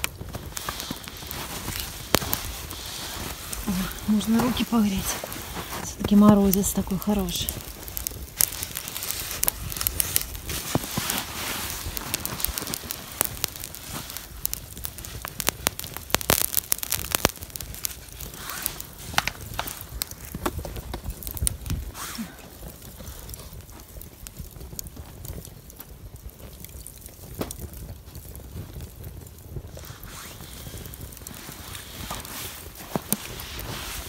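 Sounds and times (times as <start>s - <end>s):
charcoal fire crackling and popping: 0.0s - 34.0s.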